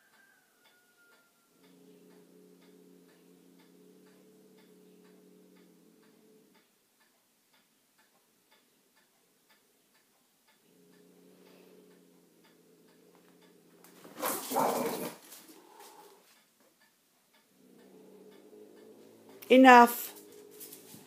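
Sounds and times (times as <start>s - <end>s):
clock ticking: 0.0s - 21.0s
faint low hum: 0.0s - 21.0s.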